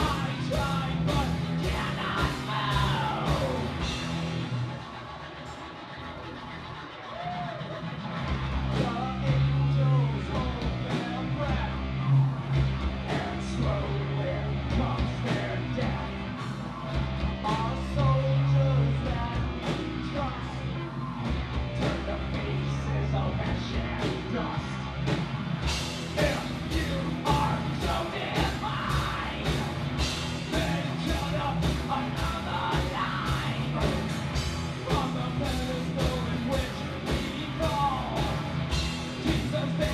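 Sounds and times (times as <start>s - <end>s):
drums: 0.0s - 39.9s.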